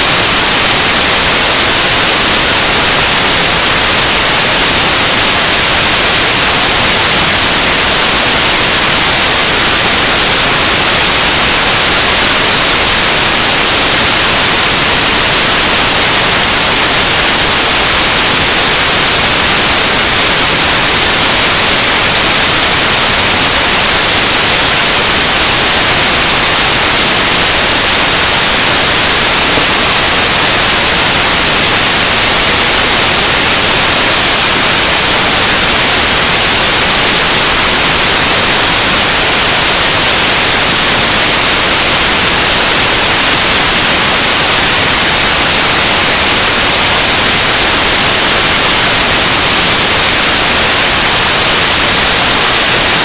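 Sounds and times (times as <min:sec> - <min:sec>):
loud static-like hiss: 0:00.0 - 0:53.0.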